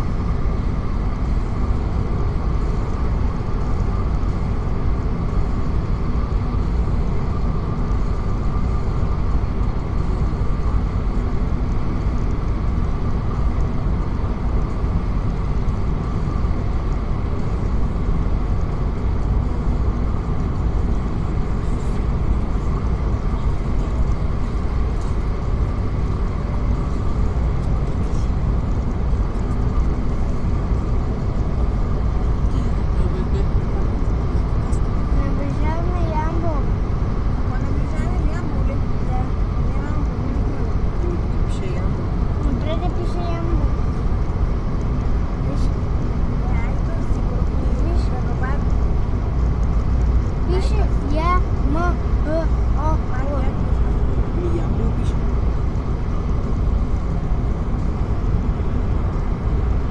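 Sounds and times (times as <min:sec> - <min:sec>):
car driving with road noise: 0:00.0 - 0:59.9.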